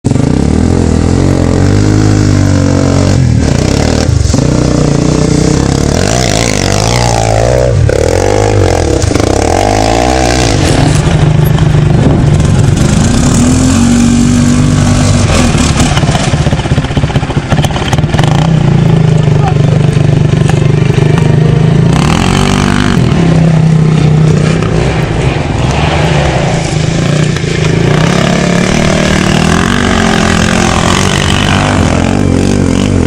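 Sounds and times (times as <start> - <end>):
atv engines revving: 0.1 - 33.0.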